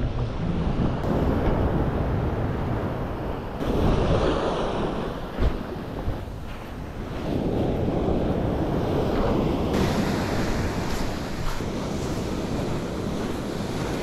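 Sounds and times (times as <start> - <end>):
wind buffeting microphone: 0.0 - 14.0
waves washing against rocks: 0.4 - 14.0.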